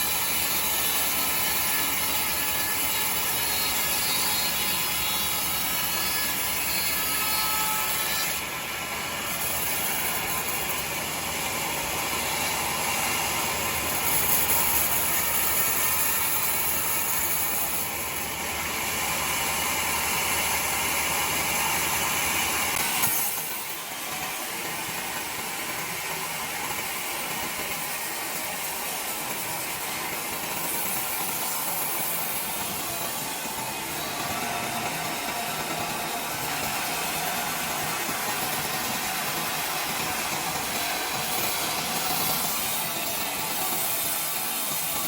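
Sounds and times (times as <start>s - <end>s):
saw cutting timber: 0.0s - 45.0s.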